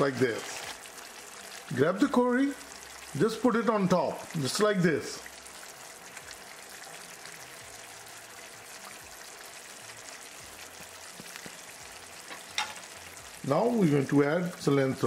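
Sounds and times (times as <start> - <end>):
curry simmering and sizzling: 0.0 - 15.0.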